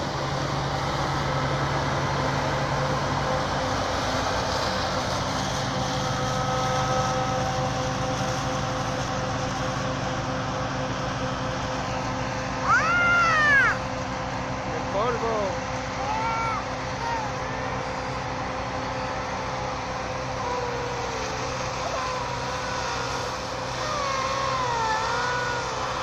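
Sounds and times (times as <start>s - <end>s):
combine harvester drone: 0.0s - 26.0s
steady whining tones: 0.0s - 26.0s.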